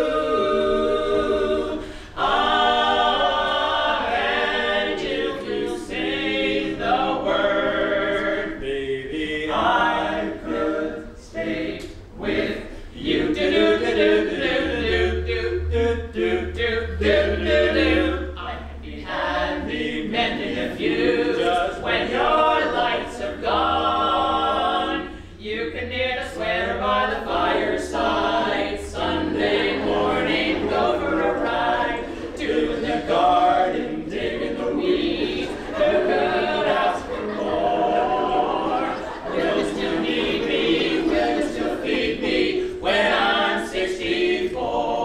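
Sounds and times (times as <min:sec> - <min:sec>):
a cappella harmony singing: 0:00.0 - 0:45.0.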